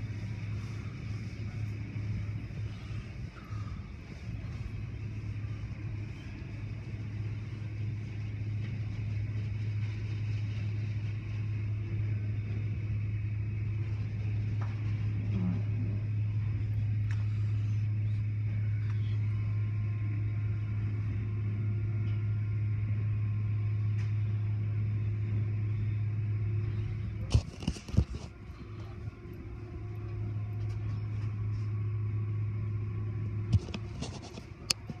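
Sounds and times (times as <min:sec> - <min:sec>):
car wash hum: 0:00.0 - 0:35.0.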